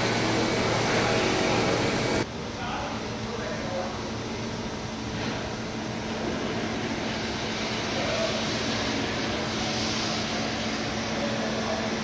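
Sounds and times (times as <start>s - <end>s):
machining centre whirring: 0.0s - 12.0s.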